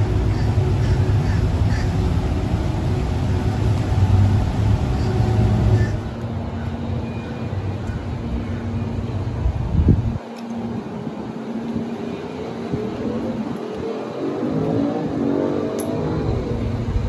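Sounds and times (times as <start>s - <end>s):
faint steady hum: 0.0s - 17.0s
low outdoor rumble: 0.0s - 17.0s.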